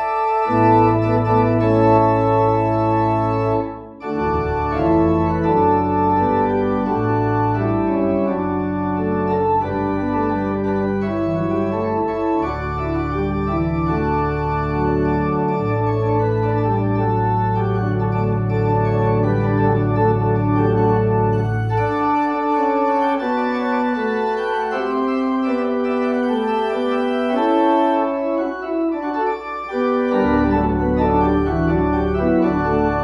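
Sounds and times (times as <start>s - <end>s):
organ playing sustained chords: 0.0s - 33.0s.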